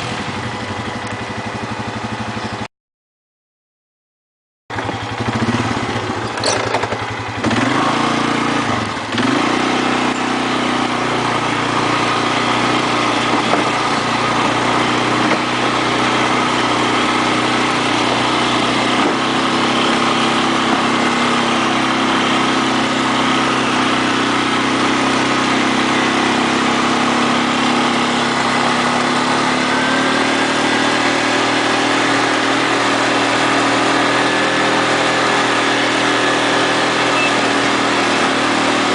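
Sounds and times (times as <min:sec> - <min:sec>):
atv engine running: 0:00.0 - 0:02.7, 0:04.7 - 0:38.9.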